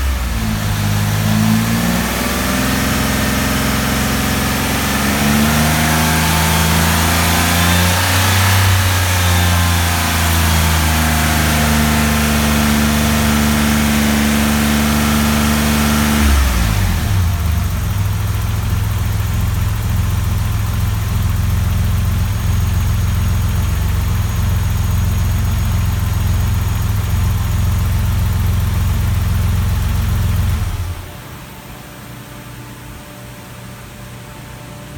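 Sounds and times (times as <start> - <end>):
car engine running: 0.0 - 31.3.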